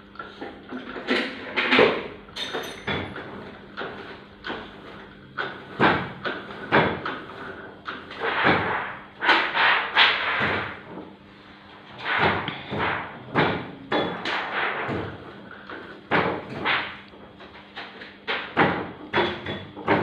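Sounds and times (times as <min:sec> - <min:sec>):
printing press knocking: 0:02.8 - 0:11.2, 0:11.9 - 0:20.0.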